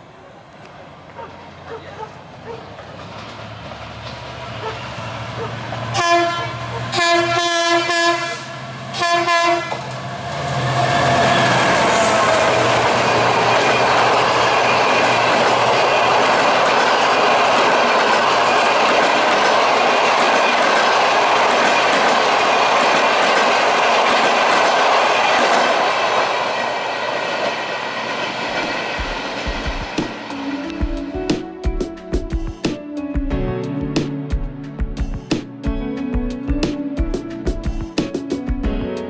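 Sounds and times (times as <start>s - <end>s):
train wheels running on rails: 0.0s - 32.8s, 37.0s - 38.6s.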